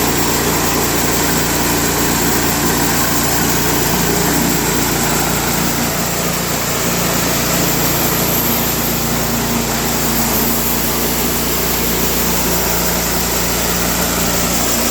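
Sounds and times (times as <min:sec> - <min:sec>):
sawmill engine running: 0:00.0 - 0:14.9.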